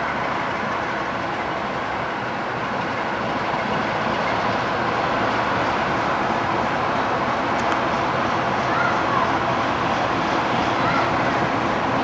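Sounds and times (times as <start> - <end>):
diesel locomotive approaching: 0.0 - 12.0.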